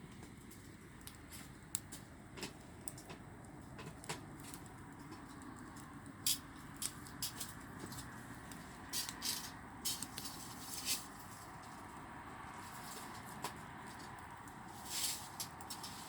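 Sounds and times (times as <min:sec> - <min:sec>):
bonfire crackling and popping: 0:00.0 - 0:16.0
low rush of flames: 0:00.0 - 0:16.0.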